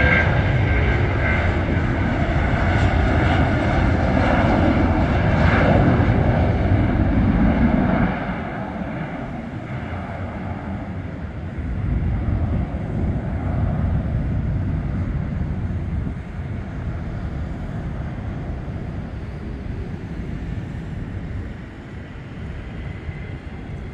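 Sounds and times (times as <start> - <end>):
jet engines rumbling: 0.0 - 23.9.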